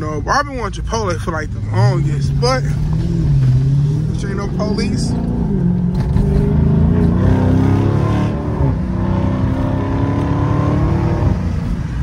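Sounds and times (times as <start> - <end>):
car engine accelerating hard: 1.4 - 12.0.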